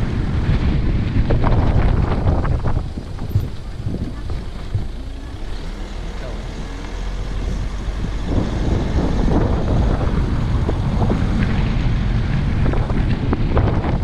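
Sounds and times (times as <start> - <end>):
vehicle running: 0.0 - 14.0
wind buffeting microphone: 0.0 - 14.0.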